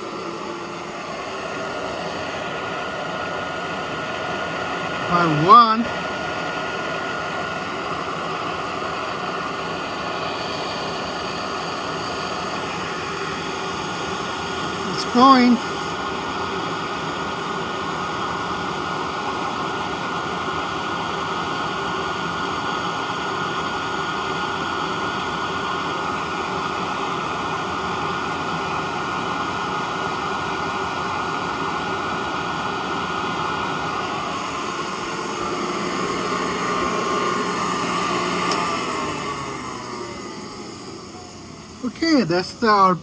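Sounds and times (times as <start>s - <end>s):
motor winding down whine: 0.0s - 43.0s
vacuum cleaner running: 0.0s - 43.0s.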